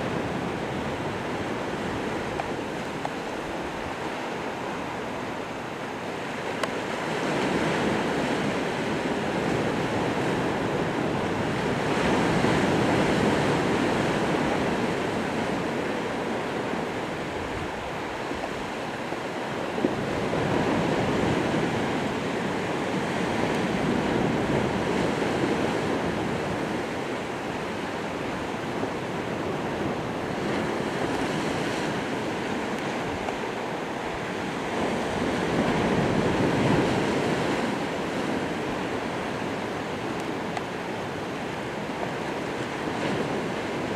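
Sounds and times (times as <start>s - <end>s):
waves breaking: 0.0s - 43.9s
wind buffeting microphone: 0.0s - 43.9s.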